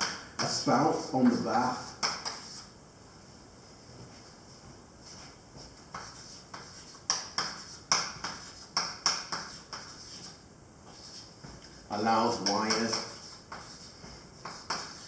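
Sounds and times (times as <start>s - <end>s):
chalk tapping and scraping: 0.0s - 2.7s, 5.0s - 15.0s.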